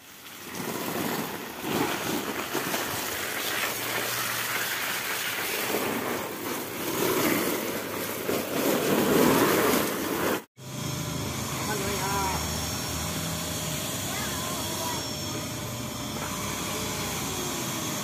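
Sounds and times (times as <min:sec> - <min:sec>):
hose water spraying on tent: 0:00.0 - 0:18.0.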